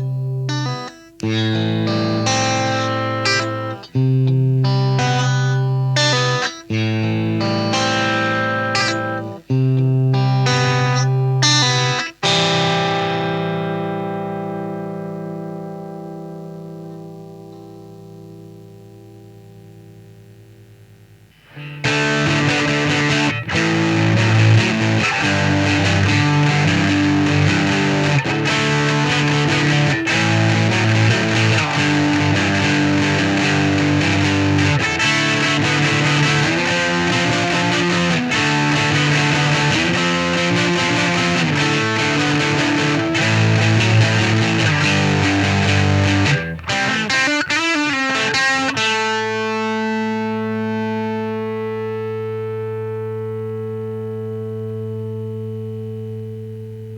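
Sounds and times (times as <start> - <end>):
overdriven electric guitar chords: 0.0 - 56.9.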